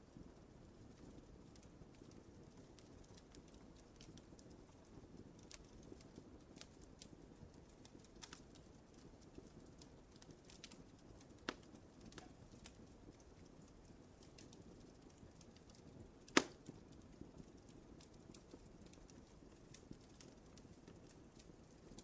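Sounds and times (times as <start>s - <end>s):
fire crackling and popping: 0.0s - 22.0s
fire flames rumbling: 0.0s - 22.0s.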